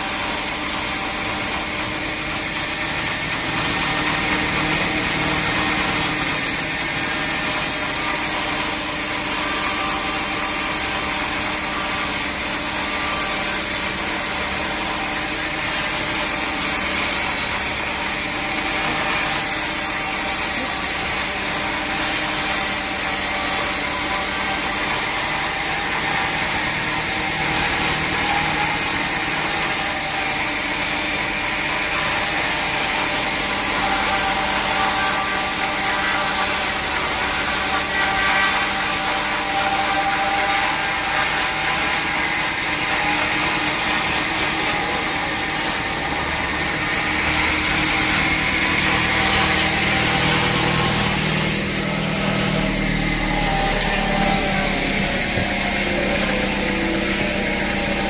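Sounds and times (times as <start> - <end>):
machine humming: 0.0 - 30.6, 36.6 - 58.0
saw cutting through wood: 0.0 - 58.0.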